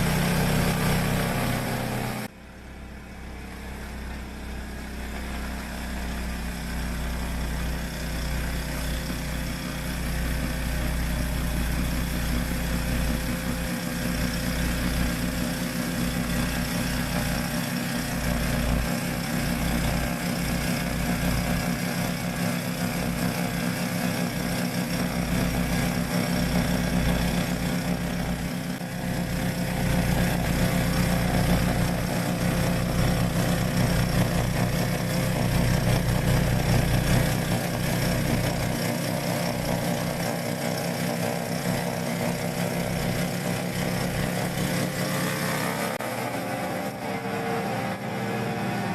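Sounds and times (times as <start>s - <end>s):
snowblower engine running: 0.0s - 48.9s.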